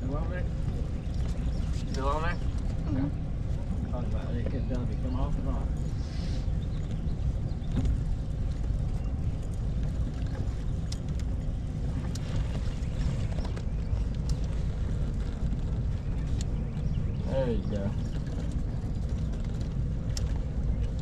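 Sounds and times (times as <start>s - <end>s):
boat engine rumble: 0.0s - 21.0s.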